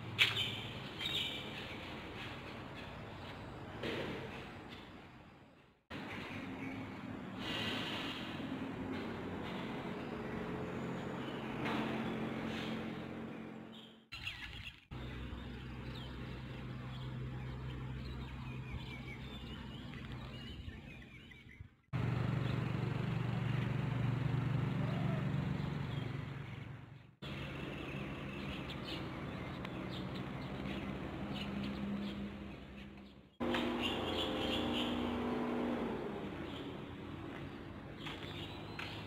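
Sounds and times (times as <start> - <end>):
birds chirping: 0.2 - 7.3, 8.0 - 39.0.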